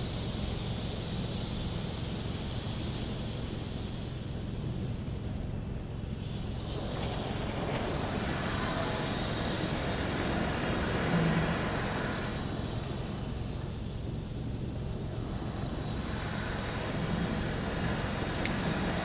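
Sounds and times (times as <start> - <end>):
water spray hissing on car: 0.0 - 5.2, 6.1 - 19.0
car wash low rumble: 0.0 - 19.0.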